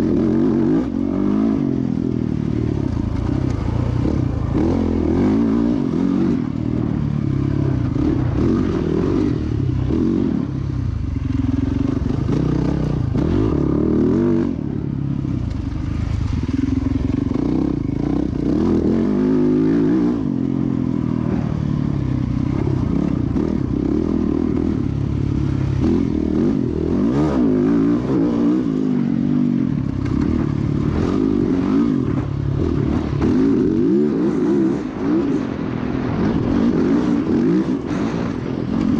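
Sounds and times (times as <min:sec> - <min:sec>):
dirt bike engine revving: 0:00.0 - 0:15.0, 0:15.6 - 0:38.9.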